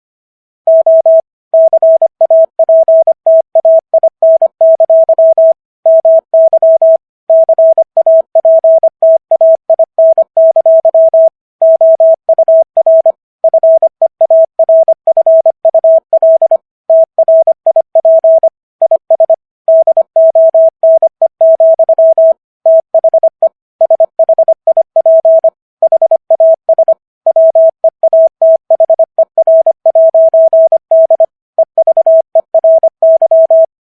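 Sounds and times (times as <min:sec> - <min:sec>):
morse code tone: 0:00.7 - 0:33.9.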